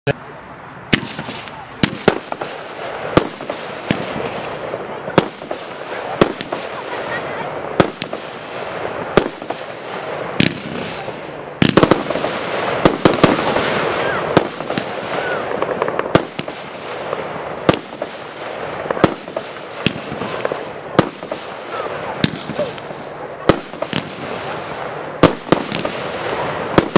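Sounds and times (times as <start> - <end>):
fireworks hissing and crackling: 0.2 - 26.9
fireworks bangs: 0.9 - 26.9.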